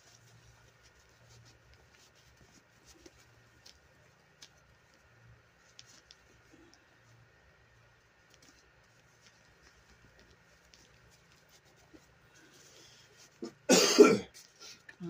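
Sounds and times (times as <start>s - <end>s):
doll being handled: 0.0s - 15.0s
faint low hum: 0.0s - 15.0s.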